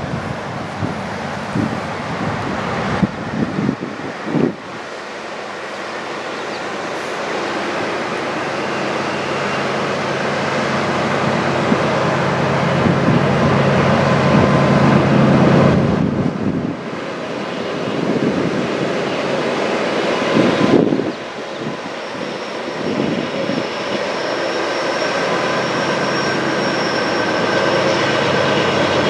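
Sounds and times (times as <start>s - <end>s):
locomotive engines humming: 0.0s - 29.0s
train rumbling on rails: 0.0s - 29.0s.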